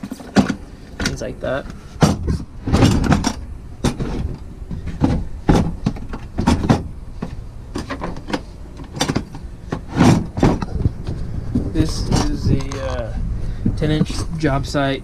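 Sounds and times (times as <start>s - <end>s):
plastic cases clunking and scraping: 0.0s - 14.8s.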